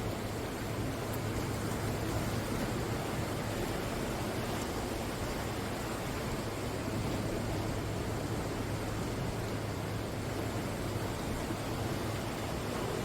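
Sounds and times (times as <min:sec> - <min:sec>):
ocean surf washing on shore: 0:00.0 - 0:13.0.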